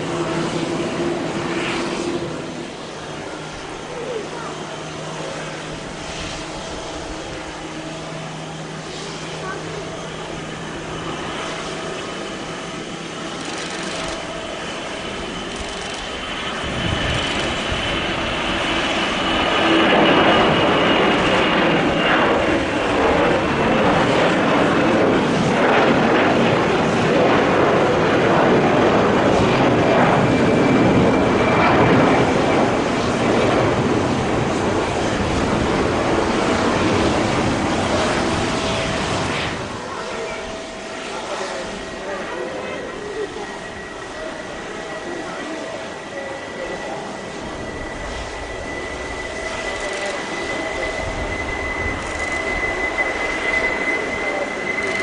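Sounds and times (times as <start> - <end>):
high engine whine: 0.0 - 55.0
jet engine roar: 0.0 - 55.0.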